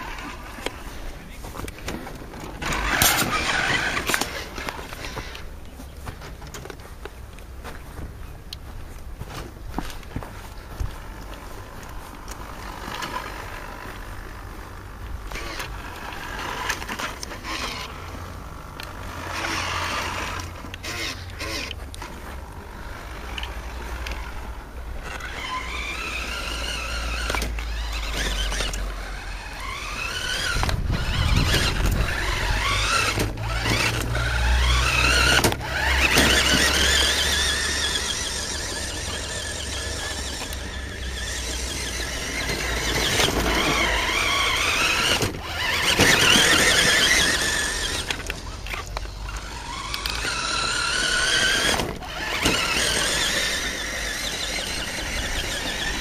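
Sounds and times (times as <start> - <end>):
toy truck motor whining: 0.0 - 6.2, 10.7 - 56.0.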